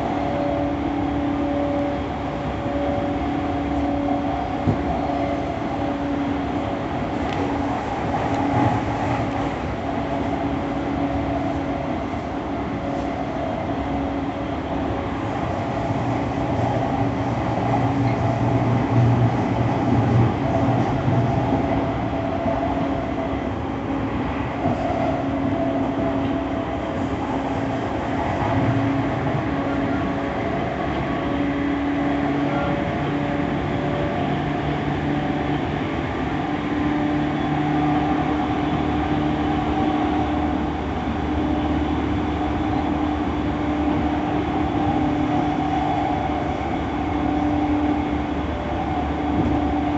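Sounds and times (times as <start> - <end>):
humming train motor: 0.0 - 49.9
train wheels rumbling on rails: 0.0 - 49.9.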